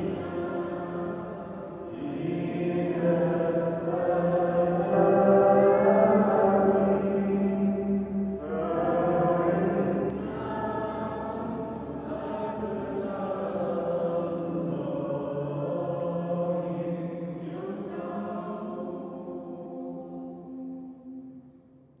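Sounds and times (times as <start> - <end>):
choir singing a slow chant: 0.0 - 22.0.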